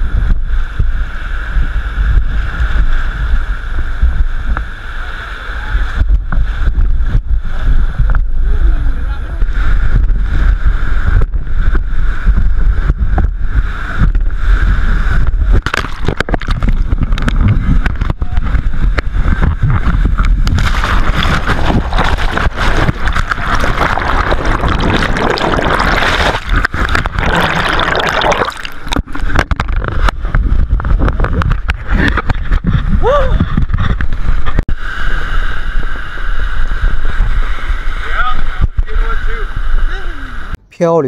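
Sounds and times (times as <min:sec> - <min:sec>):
wind buffeting microphone: 0:00.0 - 0:40.6.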